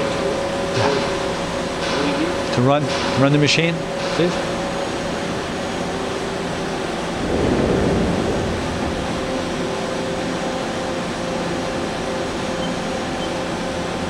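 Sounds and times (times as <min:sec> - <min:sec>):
machine humming: 0:00.0 - 0:14.0.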